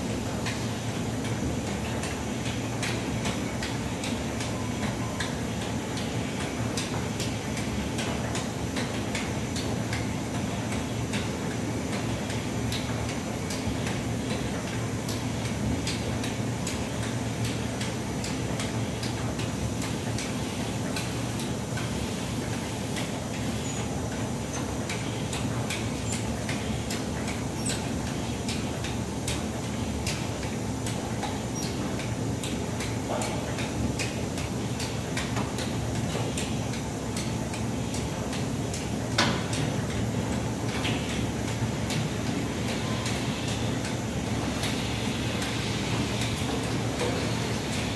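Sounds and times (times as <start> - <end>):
machine mechanical hum: 0.0 - 47.9.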